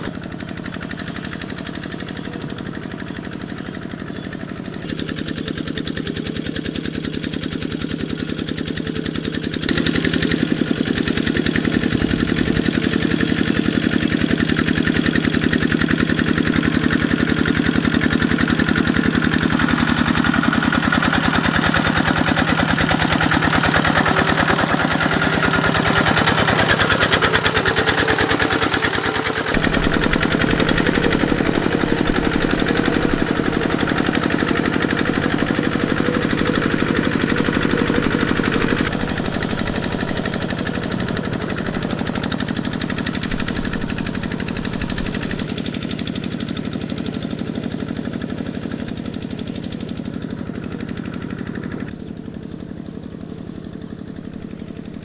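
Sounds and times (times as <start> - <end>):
diesel tractor engine chugging: 0.0 - 55.0.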